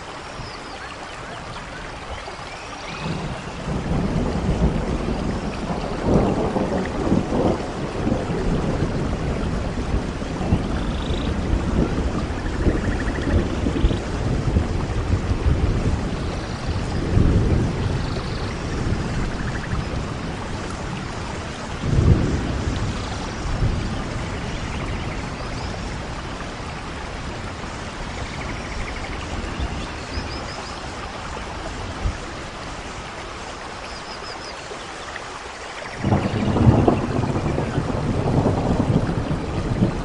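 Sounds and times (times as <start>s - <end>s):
heavy rain: 0.0s - 40.0s
thunder rumbling: 2.9s - 33.1s, 35.9s - 40.0s.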